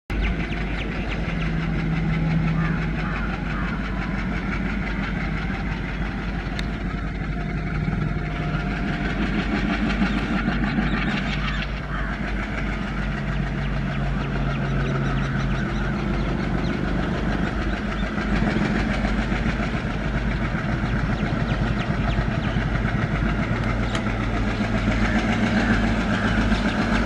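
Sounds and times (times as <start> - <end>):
diesel locomotive engine droning: 0.1 - 27.0.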